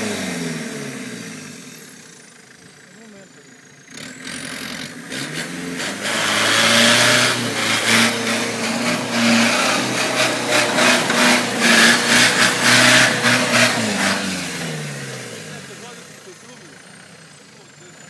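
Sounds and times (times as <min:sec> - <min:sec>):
engine running loudly: 0:00.0 - 0:18.0.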